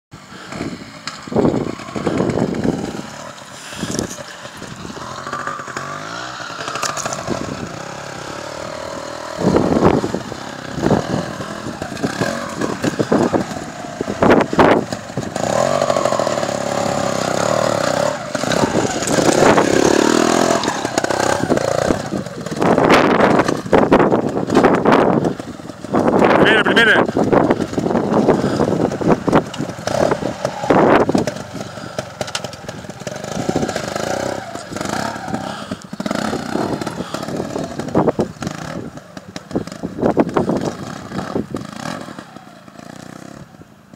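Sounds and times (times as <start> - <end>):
motorcycle engine revving: 0.2 - 43.9.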